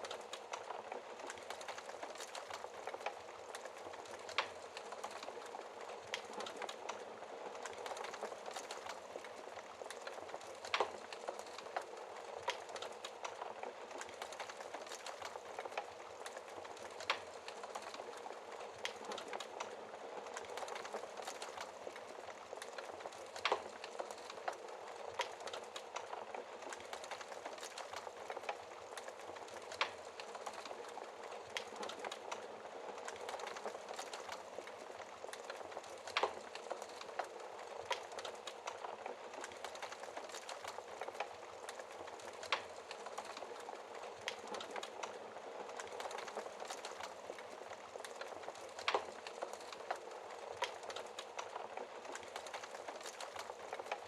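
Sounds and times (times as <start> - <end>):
fire popping: 0.0 - 54.0
log fire crackling: 0.0 - 54.0.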